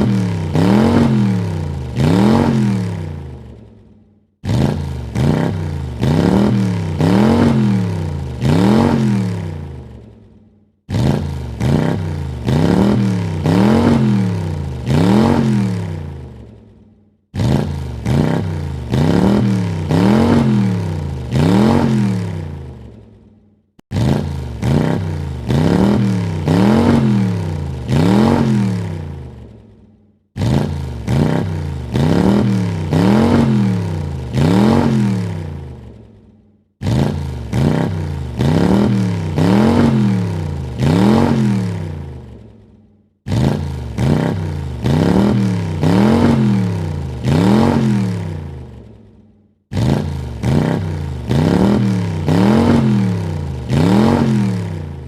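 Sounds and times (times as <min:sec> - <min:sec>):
car engine revving: 0:00.0 - 0:03.6, 0:04.4 - 0:10.2, 0:10.9 - 0:16.6, 0:17.3 - 0:23.1, 0:23.8 - 0:29.6, 0:30.4 - 0:36.0, 0:36.8 - 0:42.6, 0:43.3 - 0:48.9, 0:49.7 - 0:55.0.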